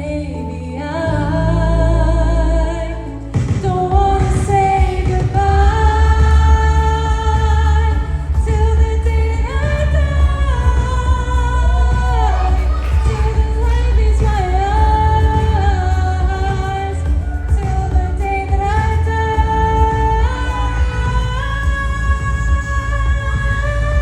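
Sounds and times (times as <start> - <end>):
bass-heavy pop backing: 0.0 - 24.0.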